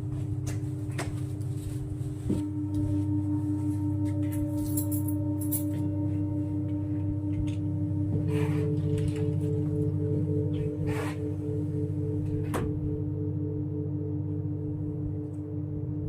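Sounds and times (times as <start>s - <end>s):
low hum: 0.0s - 16.0s
singing bowl ringing: 1.6s - 16.0s.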